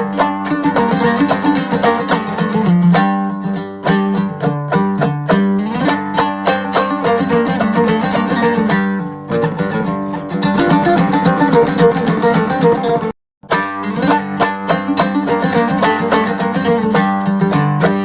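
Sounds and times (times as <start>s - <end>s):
plucked string instrument music: 0.0s - 18.0s.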